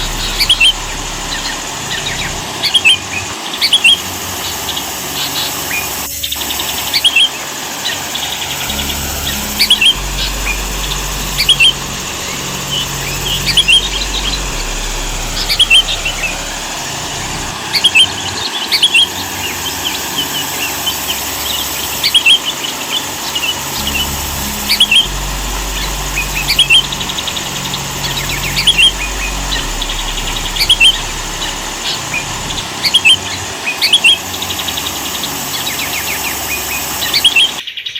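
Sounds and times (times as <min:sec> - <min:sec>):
bird chirping: 0:00.0 - 0:37.9.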